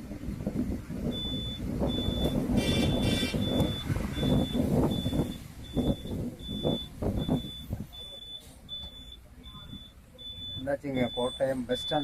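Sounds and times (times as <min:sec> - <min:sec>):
bus engine rumble: 0:00.0 - 0:12.0
reversing alarm beeping: 0:01.1 - 0:12.0.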